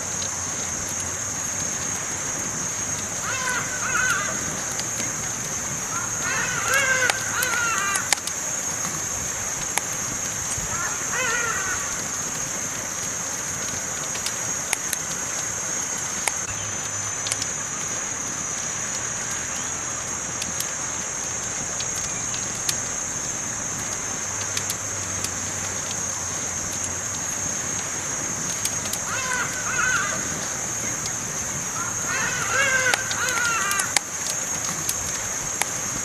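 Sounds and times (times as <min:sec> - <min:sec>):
campfire crackling and popping: 0:00.0 - 0:36.0
high-pitched hiss: 0:00.0 - 0:36.0.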